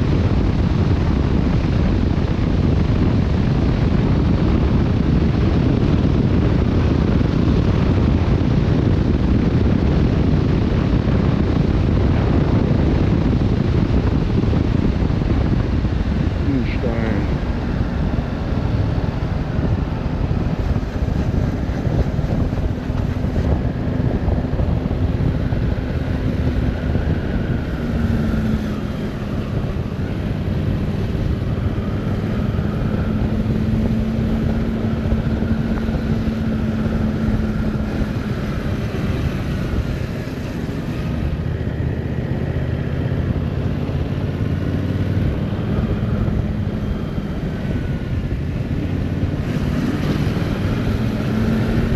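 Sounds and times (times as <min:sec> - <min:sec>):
motorcycle engine running: 0:00.0 - 0:51.9
wind noise on microphone: 0:00.0 - 0:51.9.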